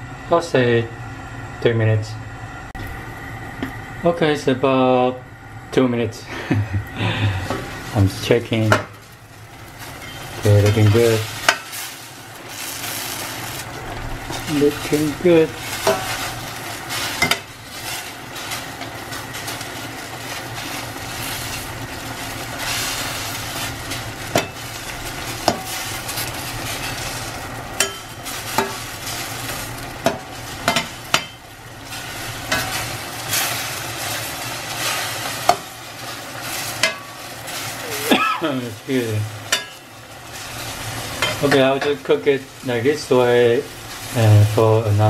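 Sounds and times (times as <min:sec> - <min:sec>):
food sizzling in frying pan: 0:06.5 - 0:45.0.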